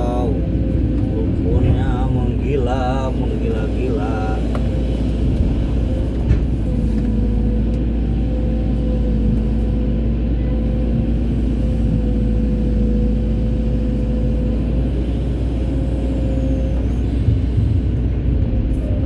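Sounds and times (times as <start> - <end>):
excavator diesel engine rumbling: 0.0 - 19.0
steady machine whine: 0.0 - 19.0.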